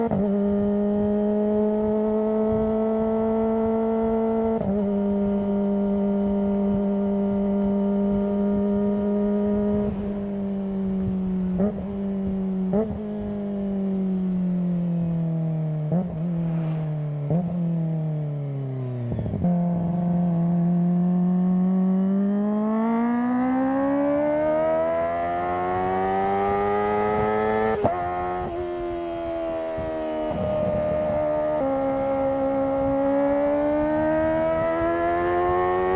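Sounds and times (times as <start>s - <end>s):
motorcycle engine and exhaust: 0.0s - 35.9s.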